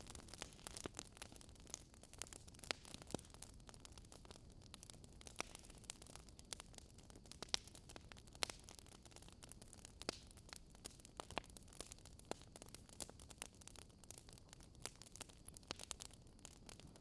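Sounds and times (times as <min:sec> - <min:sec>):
wood fire crackling faintly: 0:00.0 - 0:17.0.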